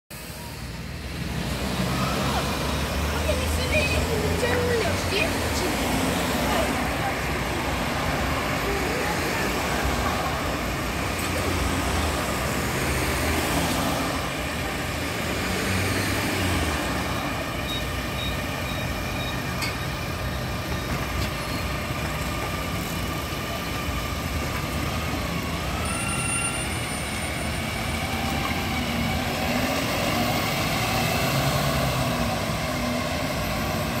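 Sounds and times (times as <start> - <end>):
bus diesel engine pulling away: 0.1 - 34.0
street traffic noise: 0.1 - 34.0.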